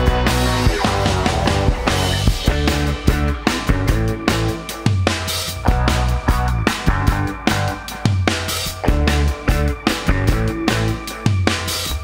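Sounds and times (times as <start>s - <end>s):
rock music with drum beat: 0.0s - 12.0s.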